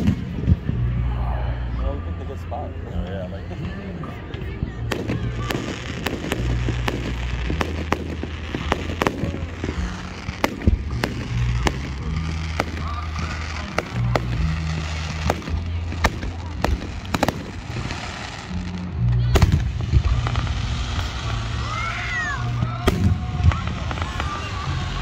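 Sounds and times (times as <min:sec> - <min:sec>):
fireworks bangs and pops: 0:00.0 - 0:00.8, 0:04.4 - 0:25.0
music with low bass: 0:00.0 - 0:25.0.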